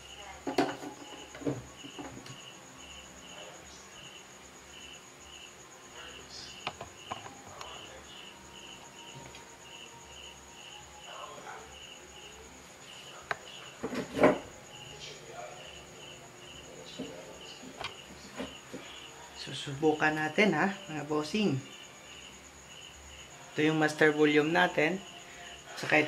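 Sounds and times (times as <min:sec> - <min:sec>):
cricket chirping: 0:00.0 - 0:26.0
high insect whine: 0:00.0 - 0:26.0.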